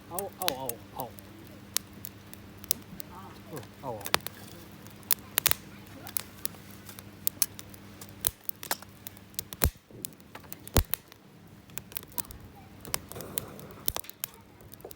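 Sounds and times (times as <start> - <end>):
campfire crackling and popping: 0.0 - 14.9.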